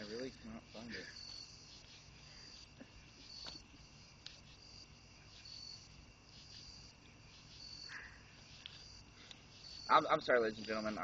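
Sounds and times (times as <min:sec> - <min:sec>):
faint crickets chirping: 0:00.0 - 0:11.0.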